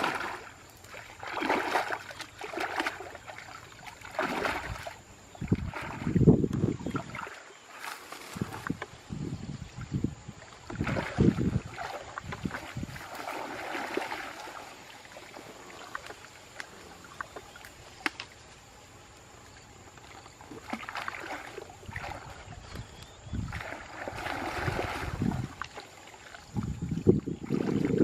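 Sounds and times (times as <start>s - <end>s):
water splashing and sloshing: 0.0s - 28.0s.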